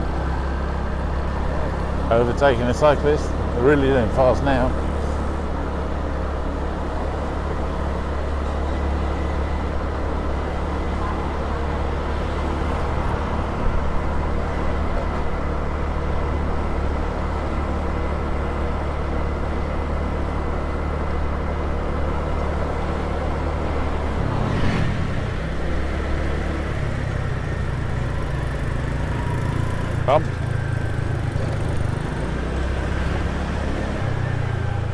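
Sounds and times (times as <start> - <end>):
motor scooter engine running: 0.0 - 34.9
road noise: 0.0 - 34.9.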